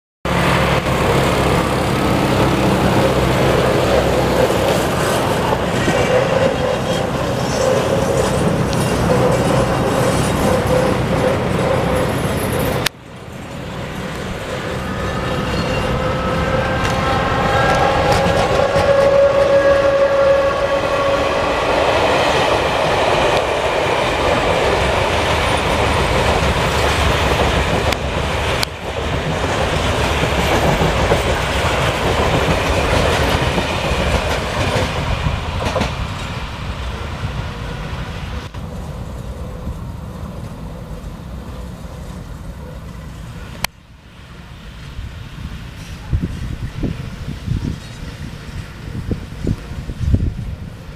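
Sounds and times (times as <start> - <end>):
electric locomotive whining: 0.3 - 50.9
train wheels rumbling on rails: 0.3 - 50.9.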